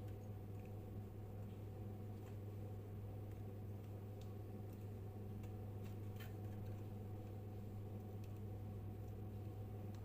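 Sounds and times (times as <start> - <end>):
ceiling fan motor humming: 0.0 - 10.0.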